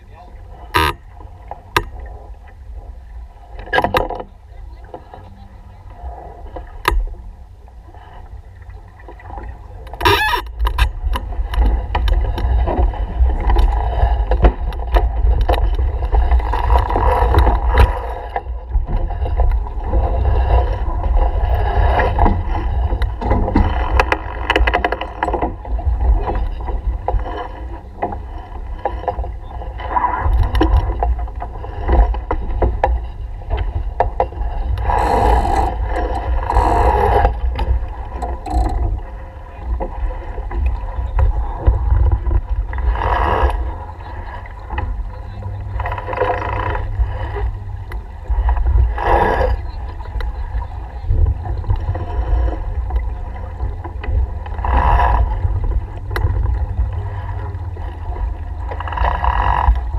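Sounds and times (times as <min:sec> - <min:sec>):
water washing along boat hull: 0:00.0 - 0:59.9
wind buffeting microphone: 0:00.0 - 0:59.9.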